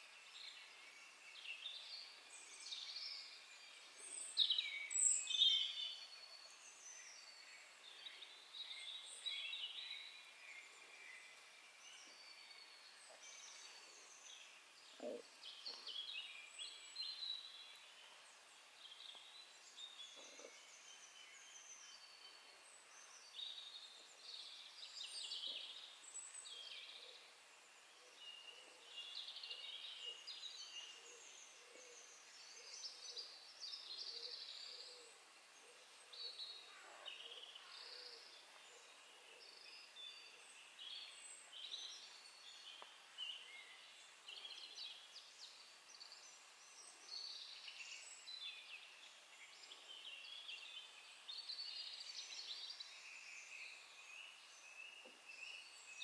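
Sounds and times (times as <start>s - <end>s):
songbirds warbling: 0.4s - 56.0s.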